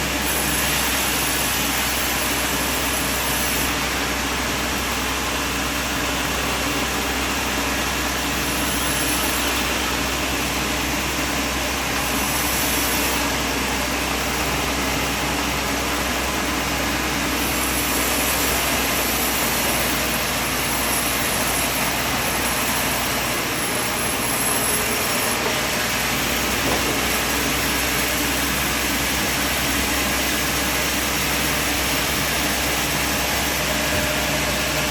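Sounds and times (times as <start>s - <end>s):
sawmill machine humming: 0.0s - 34.9s.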